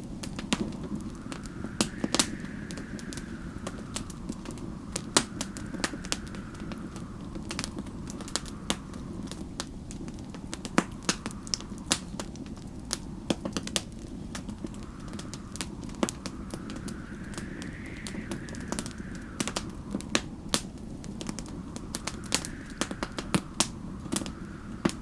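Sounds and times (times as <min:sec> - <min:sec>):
whistling wind: 0:00.0 - 0:25.0
wood fire crackling and popping: 0:00.0 - 0:25.0.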